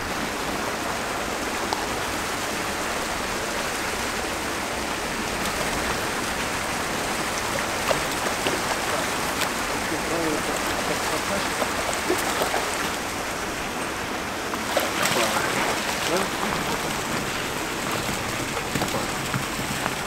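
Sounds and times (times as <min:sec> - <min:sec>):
water jets splashing into pond: 0:00.0 - 0:20.0.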